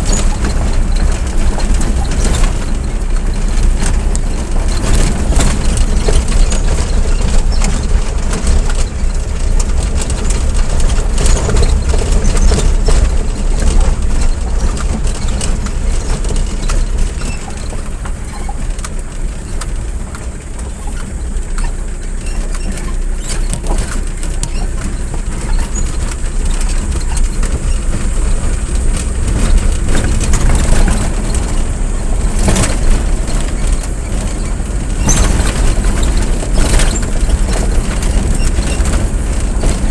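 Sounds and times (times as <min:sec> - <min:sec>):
motor vehicle rumble: 0:00.0 - 0:39.9
road noise: 0:00.0 - 0:39.9.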